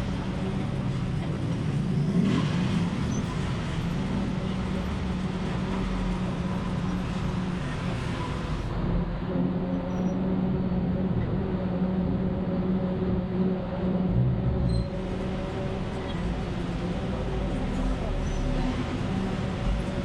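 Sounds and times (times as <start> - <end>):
engine hum: 0.0 - 20.0
road traffic noise: 0.0 - 20.0.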